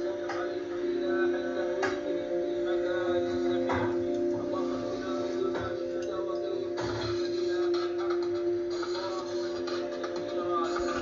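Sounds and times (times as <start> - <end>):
lo-fi music with chords: 0.0 - 11.0.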